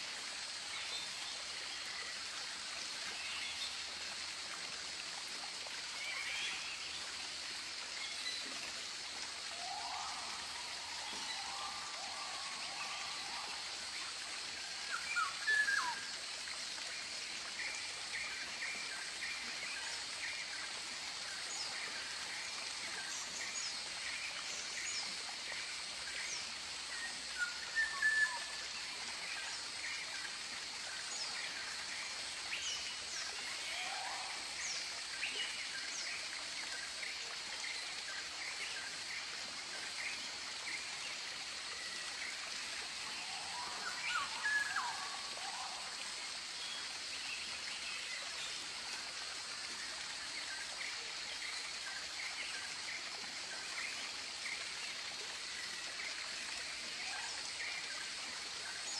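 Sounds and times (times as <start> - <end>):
steady hiss: 0.0 - 58.9.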